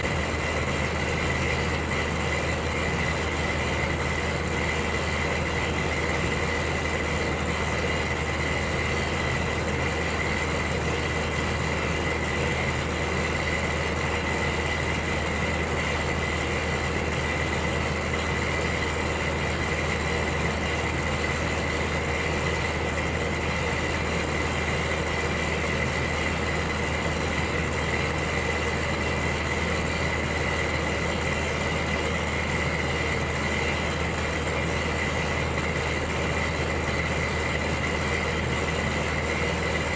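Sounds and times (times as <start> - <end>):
electric heater running: 0.0 - 39.9.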